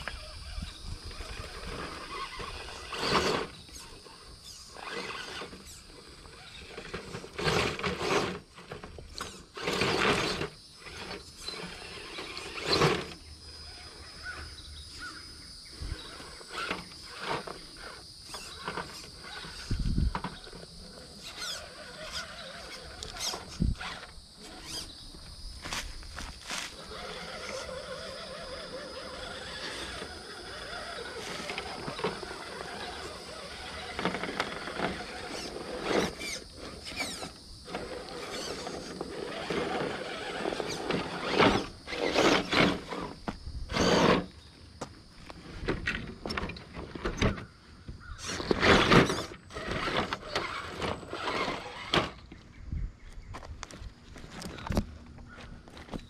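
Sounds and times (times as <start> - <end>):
toy truck motor whining: 0.0 - 44.4, 48.0 - 52.3.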